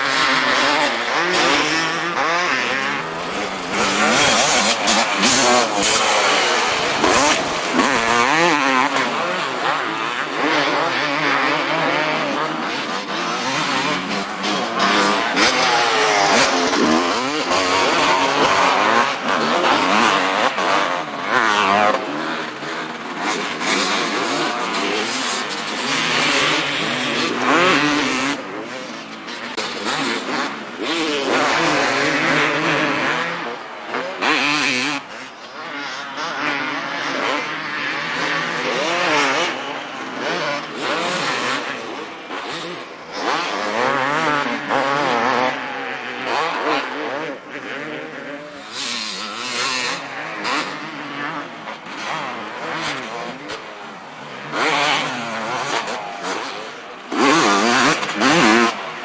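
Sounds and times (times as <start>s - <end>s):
motocross engines revving: 0.0s - 59.0s.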